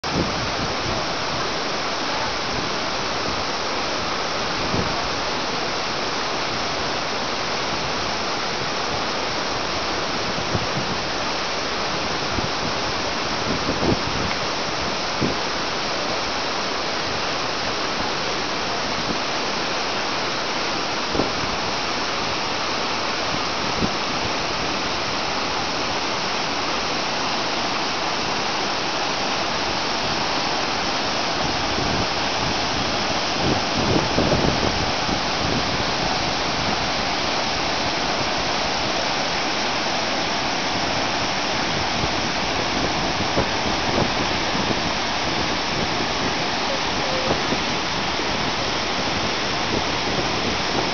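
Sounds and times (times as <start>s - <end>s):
water rushing over boulders: 0.0s - 50.9s.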